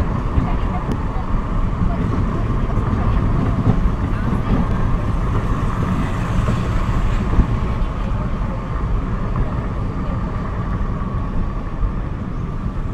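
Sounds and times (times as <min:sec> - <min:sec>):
car tyre and engine rumble: 0:00.0 - 0:12.9.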